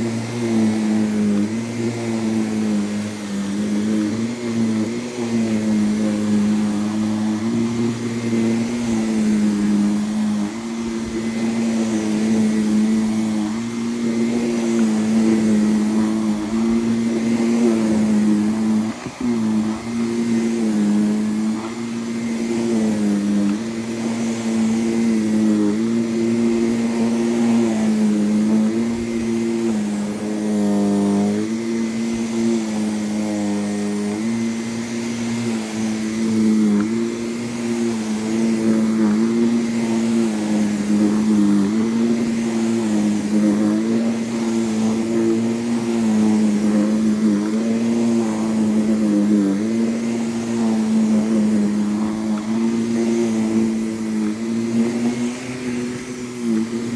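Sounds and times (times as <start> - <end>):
vacuum cleaner on a rug: 0.0 - 56.9.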